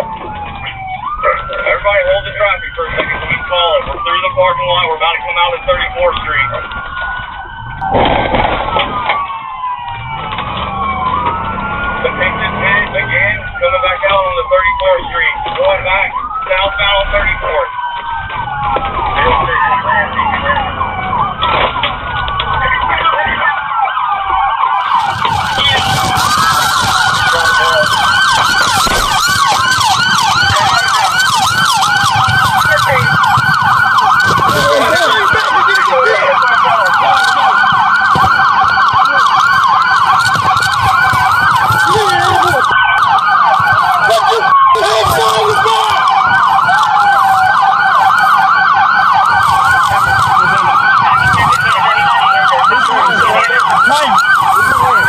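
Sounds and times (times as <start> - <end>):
engine and road noise: 0.0 - 55.0
police siren wailing and yelping: 0.0 - 55.0.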